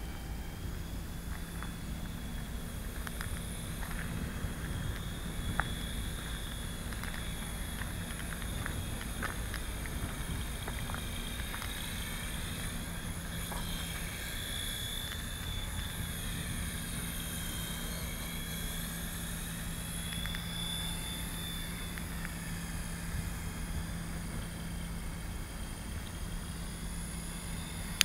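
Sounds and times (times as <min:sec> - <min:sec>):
toy helicopter motor whine: 0:00.0 - 0:28.0
wind noise on microphone: 0:00.0 - 0:28.0.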